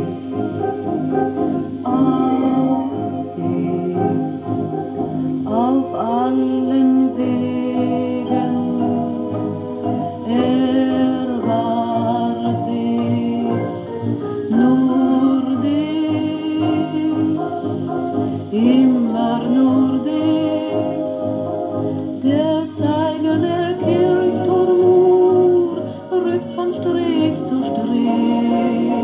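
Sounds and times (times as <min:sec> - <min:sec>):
old chanson with orchestra: 0:00.0 - 0:29.0.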